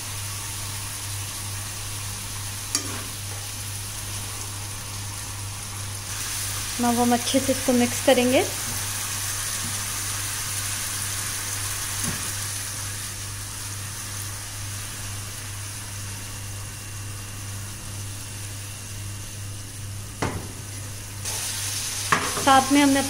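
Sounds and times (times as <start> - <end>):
sauce sizzling in frying pan: 0.0 - 23.0.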